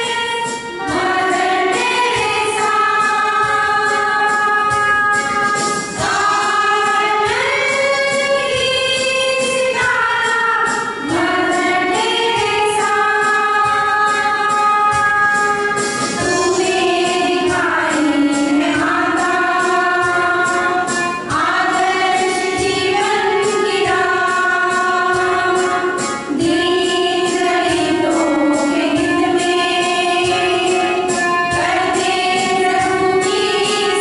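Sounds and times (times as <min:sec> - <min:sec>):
women's choir singing: 0:00.0 - 0:34.0.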